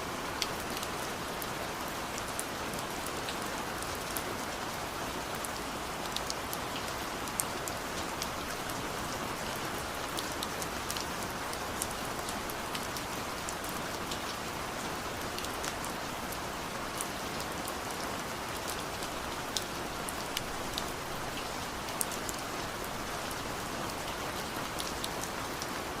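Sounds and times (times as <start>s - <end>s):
raindrops ticking close by: 2.2s - 26.0s.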